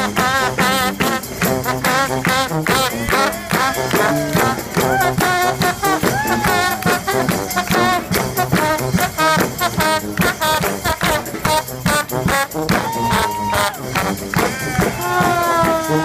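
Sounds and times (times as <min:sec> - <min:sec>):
brass band horns playing melody: 0:00.0 - 0:16.0
steady drum beat: 0:00.0 - 0:16.0.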